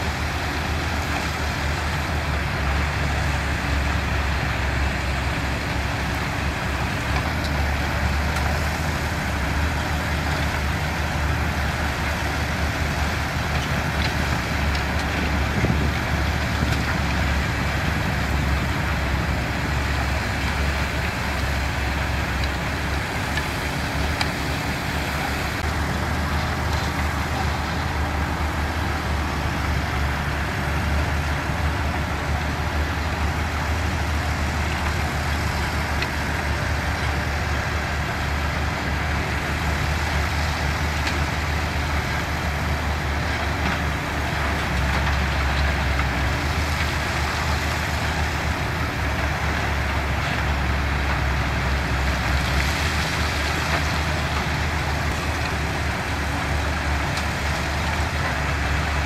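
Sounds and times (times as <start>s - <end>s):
construction machinery diesel engines: 0.0s - 59.0s.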